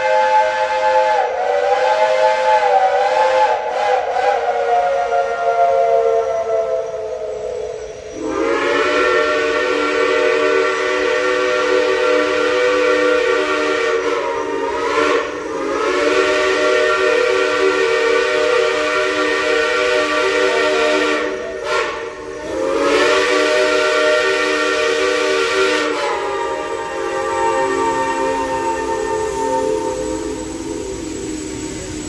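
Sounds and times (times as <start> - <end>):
steam locomotive chime whistle: 0.0 - 32.0.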